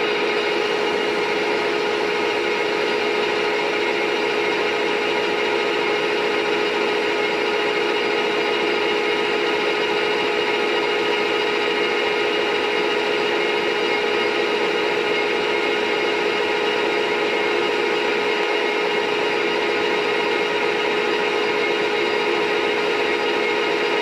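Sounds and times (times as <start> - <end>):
lathe machine hum: 0.0 - 24.0.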